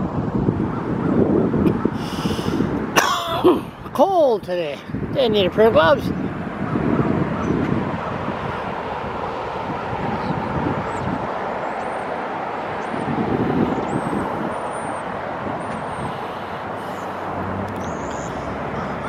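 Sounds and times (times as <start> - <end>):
distant highway traffic: 0.0 - 19.0
wind buffeting microphone: 0.0 - 19.0.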